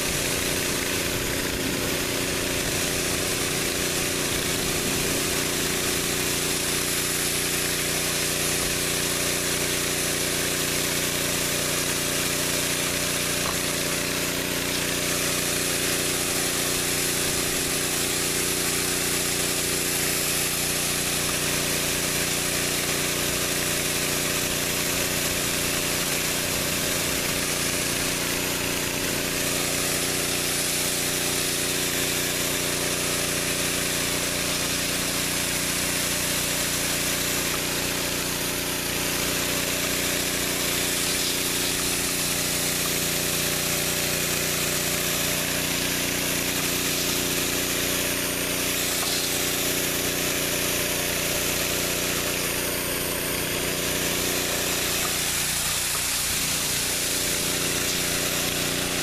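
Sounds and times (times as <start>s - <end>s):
pressure washer engine hum: 0.0s - 59.0s
water spraying onto concrete: 0.0s - 59.0s.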